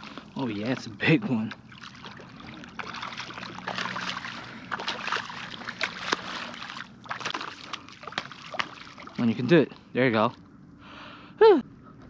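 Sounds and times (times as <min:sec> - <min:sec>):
water splashing and sloshing: 0:00.0 - 0:10.6.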